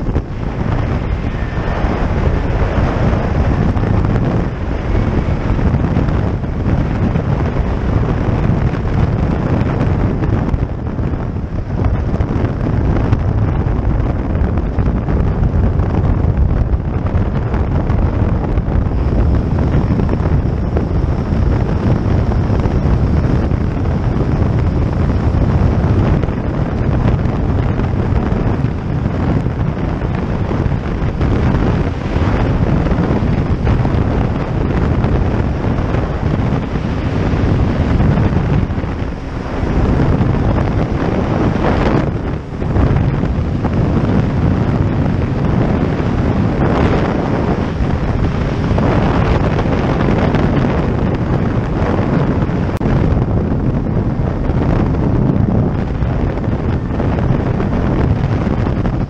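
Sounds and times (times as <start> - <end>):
aircraft engine drone: 0.0 - 59.0
wind buffeting microphone: 0.0 - 59.0.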